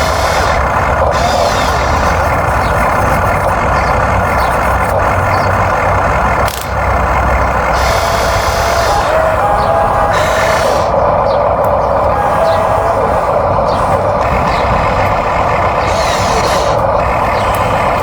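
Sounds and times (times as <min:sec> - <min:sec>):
loud machinery noise: 0:00.0 - 0:18.0.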